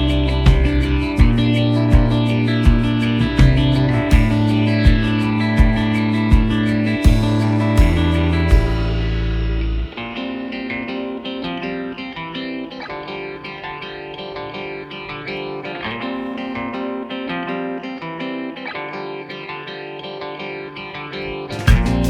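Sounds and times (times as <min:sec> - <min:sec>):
effects-processed electric guitar: 0:00.0 - 0:22.0
plucked guitar notes: 0:00.0 - 0:22.0.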